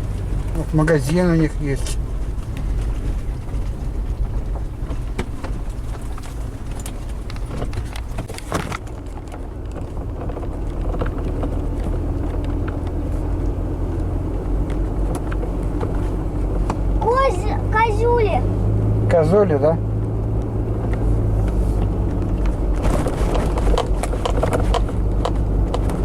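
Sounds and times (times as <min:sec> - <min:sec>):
knocks and rattles: 0:00.0 - 0:18.4, 0:20.2 - 0:26.0
car engine and road rumble: 0:00.0 - 0:26.0.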